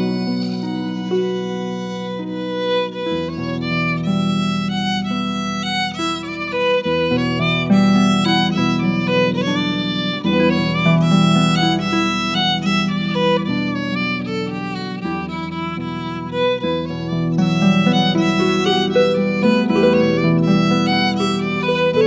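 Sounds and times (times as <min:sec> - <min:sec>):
harp accompaniment: 0:00.0 - 0:22.0
violin melody: 0:00.0 - 0:22.0.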